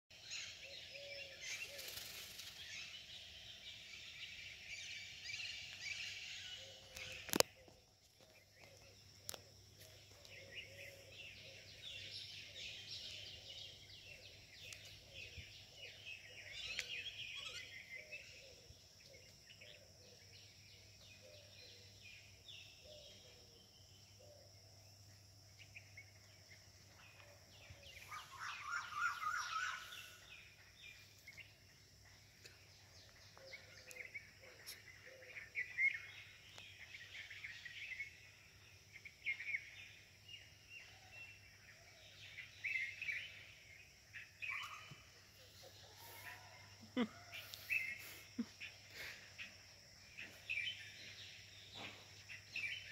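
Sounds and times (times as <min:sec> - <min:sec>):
birds chirping: 0:00.1 - 0:52.9.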